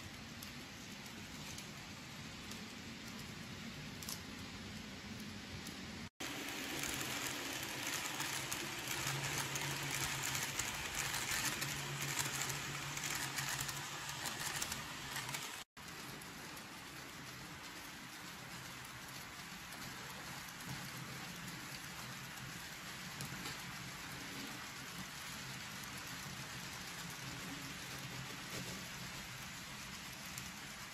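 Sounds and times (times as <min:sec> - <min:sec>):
model trains rolling on track: 0:00.0 - 0:30.9.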